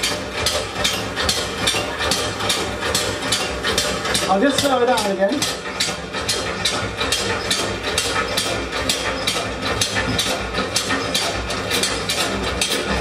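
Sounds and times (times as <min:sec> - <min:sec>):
steam engine clacking: 0:00.0 - 0:13.0.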